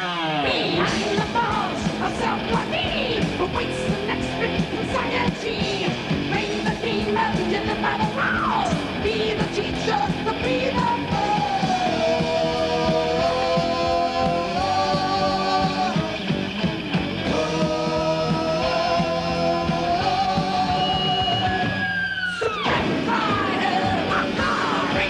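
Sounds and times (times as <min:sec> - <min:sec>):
heavy metal music: 0:00.0 - 0:25.0
lead guitar line: 0:00.0 - 0:25.0.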